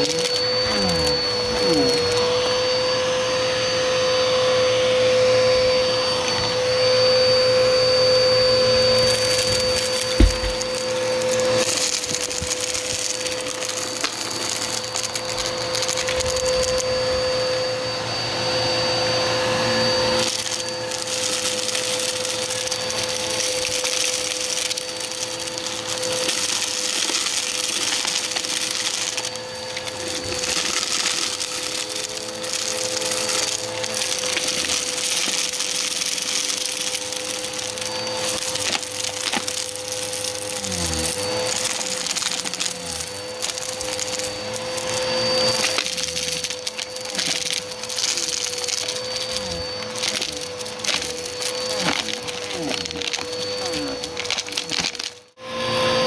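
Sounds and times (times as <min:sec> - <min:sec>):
vacuum cleaner whine: 0:00.0 - 0:56.0
debris crackling in vacuum: 0:08.0 - 0:17.7, 0:19.8 - 0:55.4.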